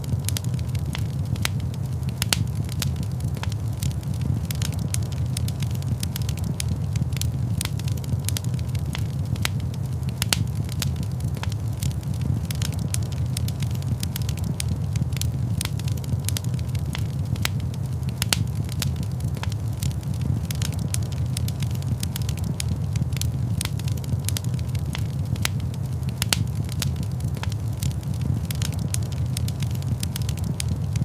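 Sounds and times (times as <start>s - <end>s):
fire crackling and popping: 0.0s - 31.0s
steady low rumble: 0.0s - 31.0s.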